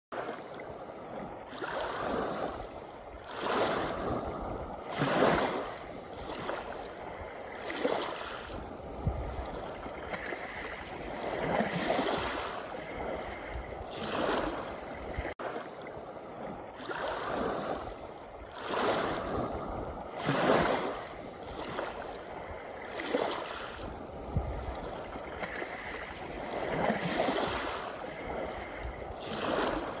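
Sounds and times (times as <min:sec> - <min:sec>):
waves washing onto pebble beach: 0:00.2 - 0:30.0.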